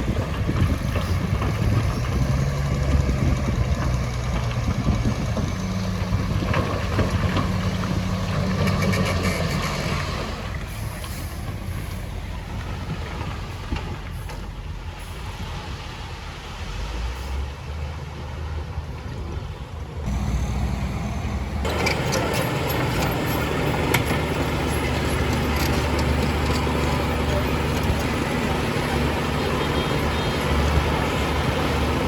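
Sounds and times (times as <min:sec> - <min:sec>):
diesel construction machinery running: 0:00.0 - 0:16.6, 0:17.2 - 0:32.0.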